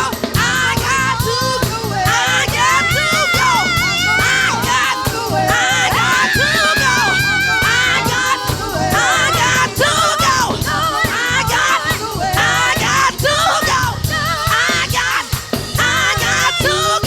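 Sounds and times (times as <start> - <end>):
person singing melismatic lines: 0.0 - 15.4
band with drums and bass: 0.0 - 17.0.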